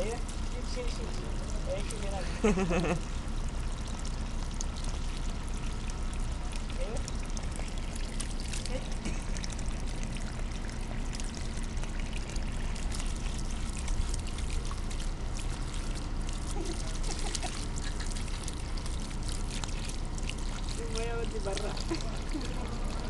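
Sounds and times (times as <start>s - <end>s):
hose water pouring onto concrete: 0.0s - 23.0s
water splashes: 0.0s - 23.0s.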